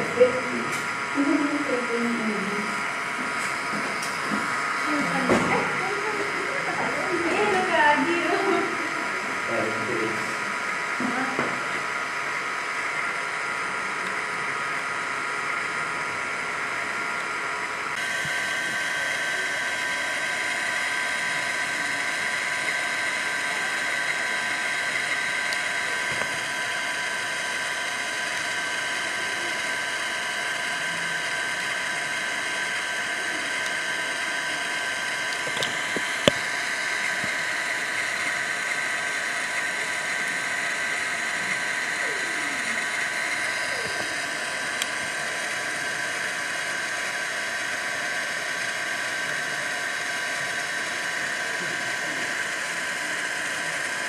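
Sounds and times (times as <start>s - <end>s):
outdoor buzzing drone: 0.0s - 54.0s.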